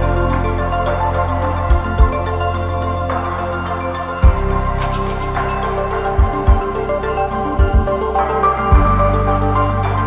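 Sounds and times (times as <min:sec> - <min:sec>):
background music with held chords: 0:00.0 - 0:10.0.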